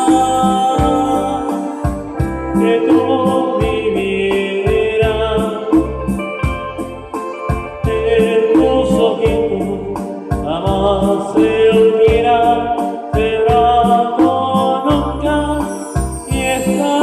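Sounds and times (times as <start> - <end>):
electronic keyboard: 0.0 - 17.0
programmed beat: 0.0 - 17.0.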